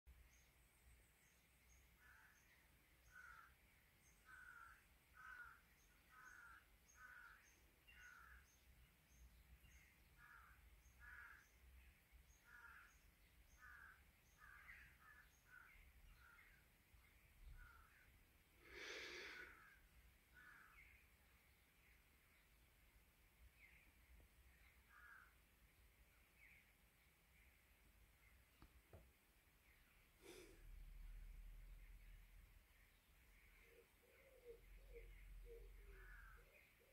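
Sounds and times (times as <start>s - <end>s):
birds calling: 1.3s - 22.6s, 23.6s - 26.7s, 31.8s - 36.9s.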